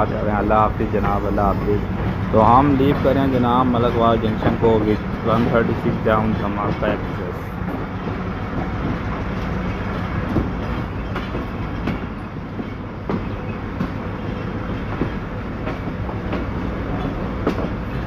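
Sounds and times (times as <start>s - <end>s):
train rumbling: 0.0s - 18.0s
wheels clicking over rail joints: 0.0s - 18.0s.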